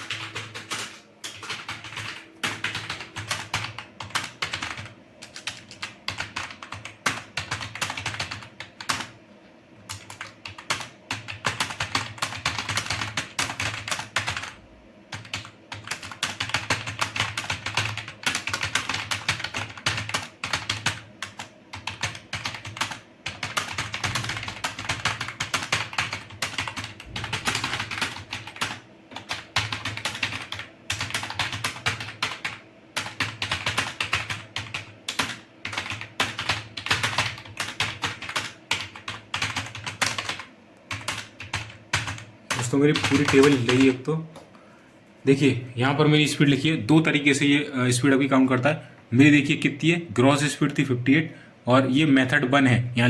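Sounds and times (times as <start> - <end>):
rattly keyboard typing: 0.0 - 9.2, 9.8 - 44.2.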